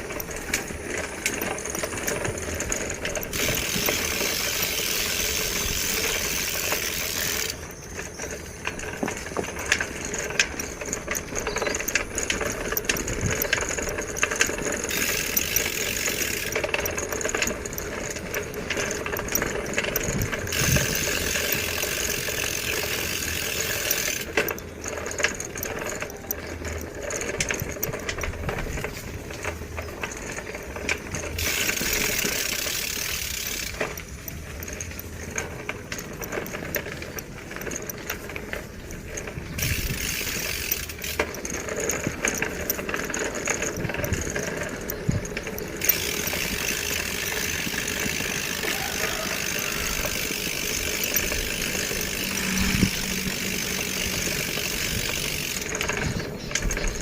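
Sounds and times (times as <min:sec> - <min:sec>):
bicycle rattling and clicking: 0:00.0 - 0:57.0.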